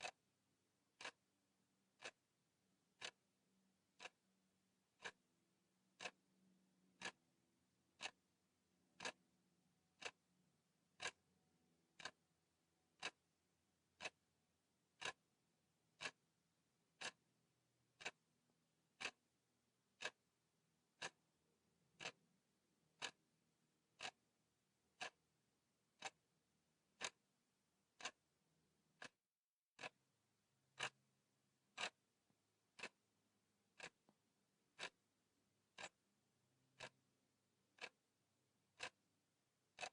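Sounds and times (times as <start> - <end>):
clock ticking: 0.0 - 0.2, 0.8 - 1.3, 1.9 - 12.3, 12.9 - 14.3, 14.9 - 16.3, 16.9 - 28.3, 29.0 - 29.2, 30.7 - 31.1, 31.7 - 32.1, 32.7 - 33.1, 33.7 - 39.9.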